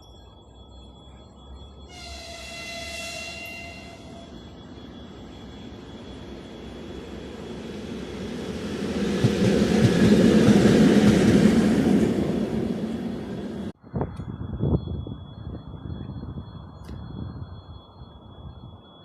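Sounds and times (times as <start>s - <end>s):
train rumble and rail noise: 0.0s - 19.0s.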